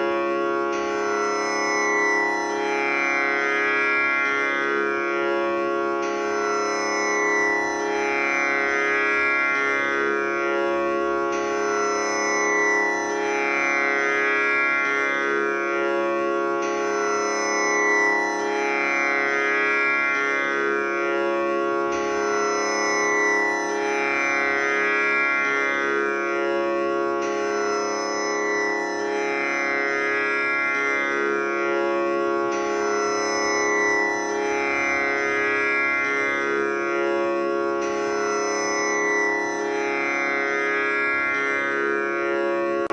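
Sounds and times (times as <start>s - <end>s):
tanpura drone: 0.0s - 42.9s.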